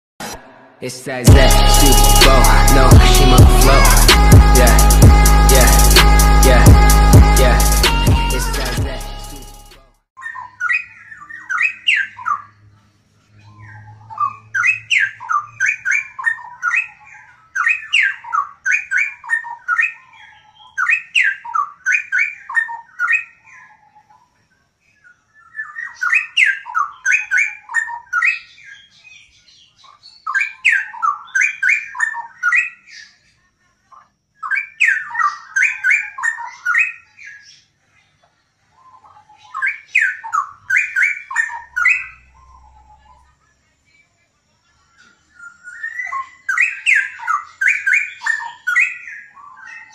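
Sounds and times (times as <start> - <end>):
bird singing warbling phrases: 0.8 - 9.6, 10.2 - 49.9.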